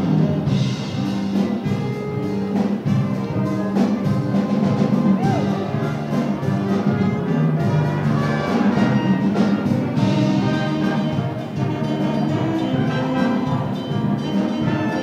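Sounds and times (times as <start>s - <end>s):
jazz band playing: 0.0s - 15.0s.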